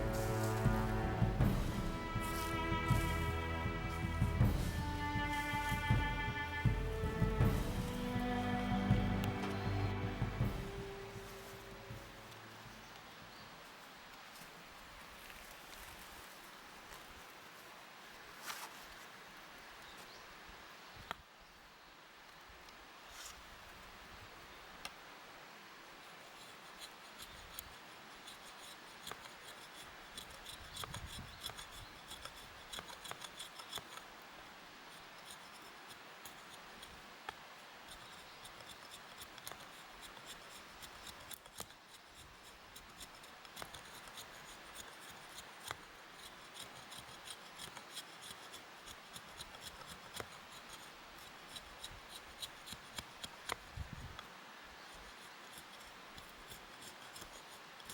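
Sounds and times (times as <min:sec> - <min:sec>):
faint small scraping strokes: 0:00.0 - 0:19.2, 0:23.0 - 0:23.9, 0:26.0 - 0:57.9.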